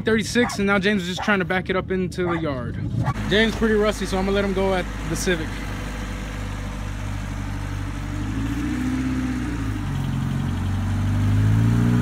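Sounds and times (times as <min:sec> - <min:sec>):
car engine at low revs: 0:02.3 - 0:12.0.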